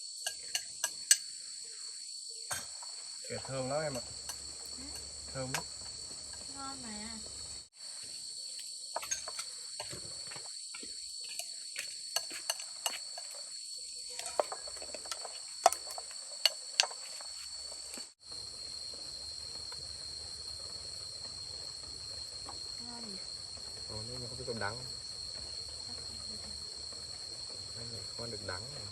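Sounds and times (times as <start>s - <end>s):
insects chirring: 0.0s - 28.9s.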